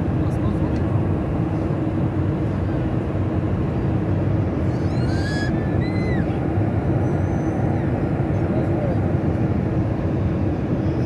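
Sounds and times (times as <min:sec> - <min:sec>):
jet engines and airflow roar: 0:00.0 - 0:11.0.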